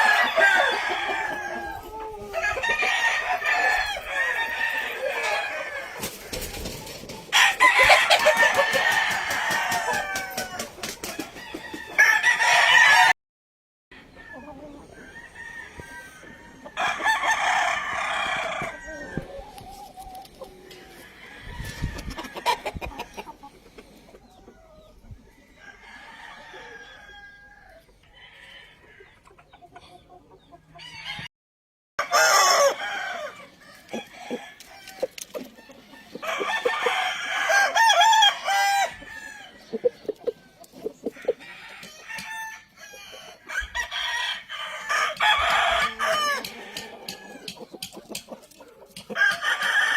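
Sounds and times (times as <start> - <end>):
hens clucking: 0.0 - 12.6, 14.0 - 27.1, 27.8 - 31.0, 32.1 - 49.9
roosters crowing: 0.0 - 13.2, 13.9 - 23.8, 25.3 - 29.3, 30.8 - 31.3, 32.0 - 49.9.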